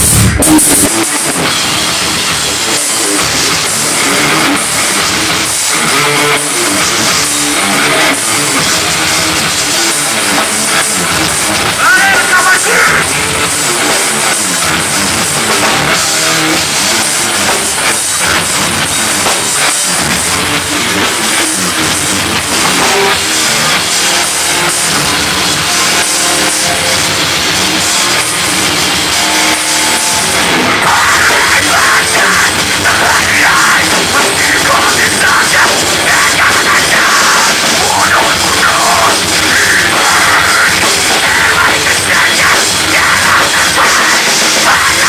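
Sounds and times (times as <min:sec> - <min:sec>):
bass guitar: 0:00.0 - 0:45.0
distorted electric guitars: 0:00.0 - 0:45.0
drum kit: 0:00.0 - 0:45.0
metal band playing live: 0:00.0 - 0:45.0
harsh screamed vocal: 0:01.2 - 0:45.0.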